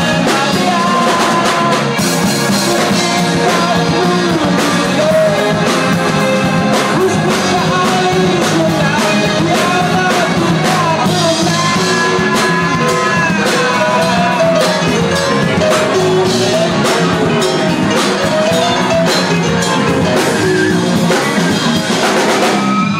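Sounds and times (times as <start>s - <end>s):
live rock band: 0.0s - 22.9s
person singing: 0.0s - 22.9s.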